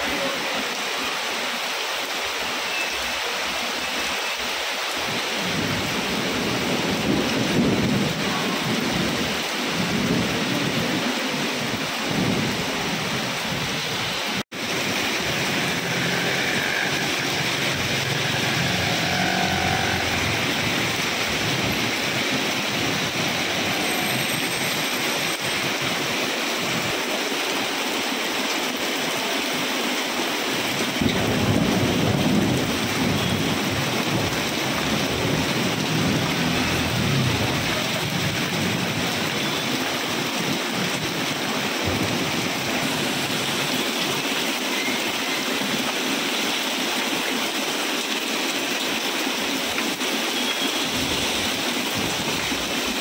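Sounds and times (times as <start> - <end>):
heavy rain on pavement and cars: 0.0 - 53.0.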